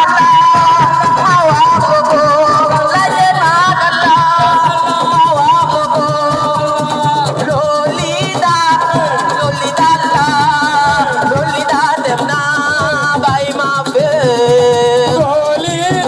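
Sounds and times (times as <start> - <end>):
dense percussion: 0.0 - 16.0
person singing: 0.0 - 16.0.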